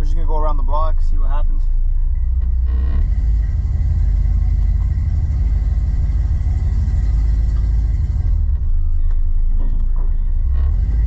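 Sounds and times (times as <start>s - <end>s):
pickup engine and road noise: 0.0s - 11.0s.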